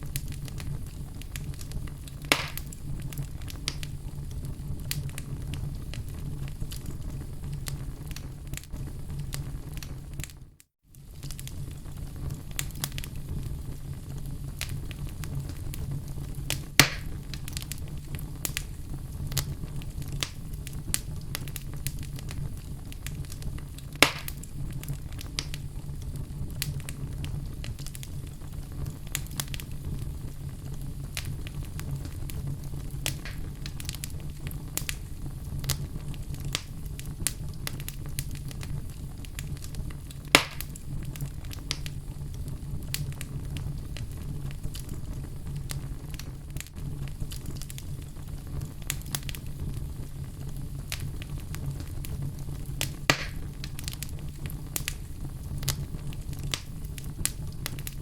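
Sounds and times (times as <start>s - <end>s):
fire crackling: 0.0s - 58.0s
low fire rumble: 0.0s - 58.0s.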